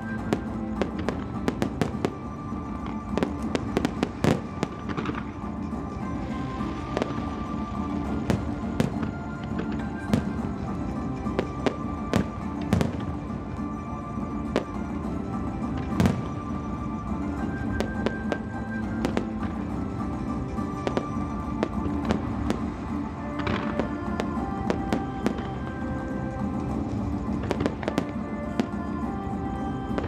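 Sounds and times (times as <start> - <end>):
fireworks bursting with sharp bangs: 0.0 - 13.8, 14.4 - 29.0
music playing: 0.0 - 30.0.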